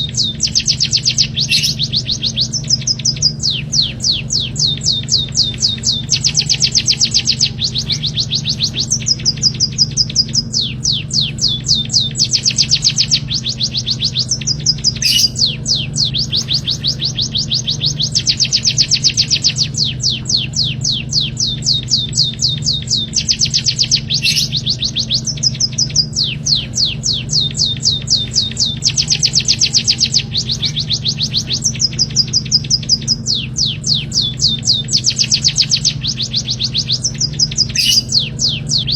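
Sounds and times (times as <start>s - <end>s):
songbird singing fast trills: 0.0s - 38.9s.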